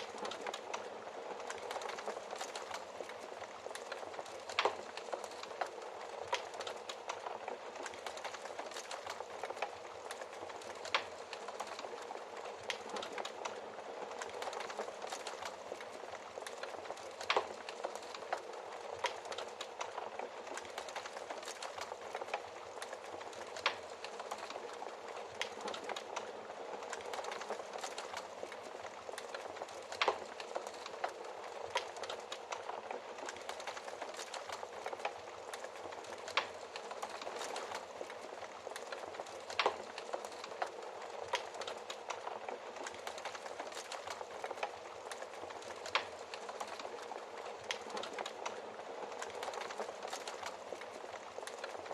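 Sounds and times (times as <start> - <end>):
wood fire crackling in fireplace: 0.0 - 51.9.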